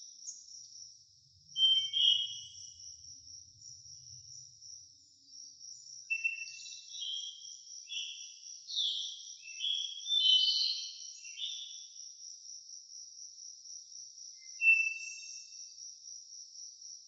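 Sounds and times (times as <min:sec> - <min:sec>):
insect trill: 0:00.0 - 0:17.0
songbird singing: 0:00.0 - 0:17.0.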